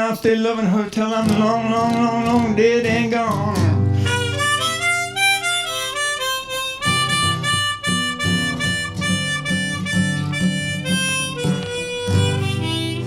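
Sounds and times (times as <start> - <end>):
strummed acoustic guitar: 0.0 - 13.0
bluesy harmonica: 1.3 - 13.0.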